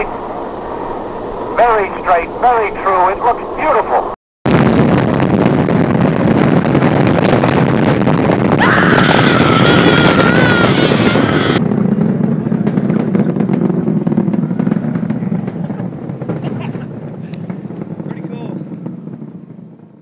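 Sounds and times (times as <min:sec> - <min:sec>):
rocket motor roaring: 0:00.0 - 0:19.2.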